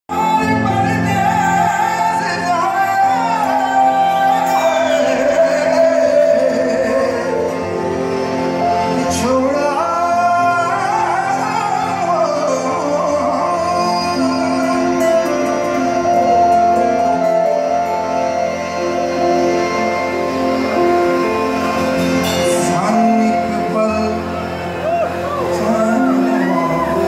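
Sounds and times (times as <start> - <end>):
keyboards and guitar: 0.0 - 27.0
man singing live: 0.1 - 27.0.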